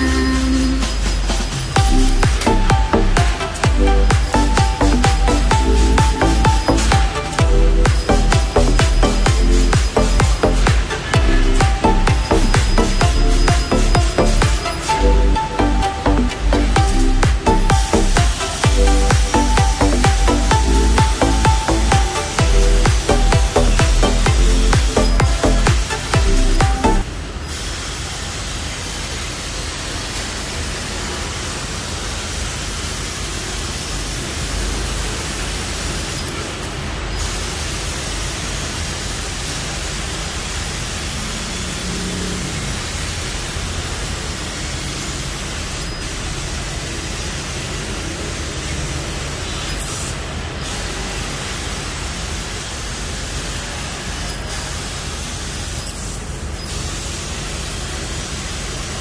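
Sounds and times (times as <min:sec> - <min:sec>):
laser cutter gas jet hissing: 0:00.0 - 0:59.0.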